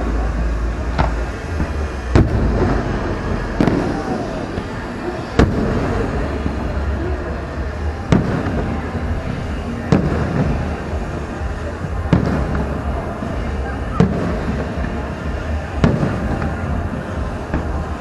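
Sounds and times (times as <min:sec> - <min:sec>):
continuous din: 0:00.0 - 0:18.0
fireworks booming: 0:00.0 - 0:18.0.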